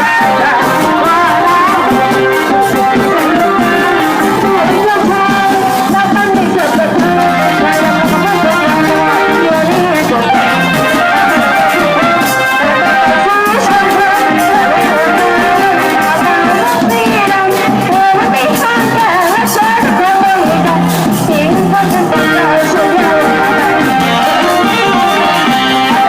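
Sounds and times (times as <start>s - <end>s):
brass band playing: 0.0s - 26.0s
drums: 0.0s - 26.0s
horns wavering melody: 0.0s - 26.0s.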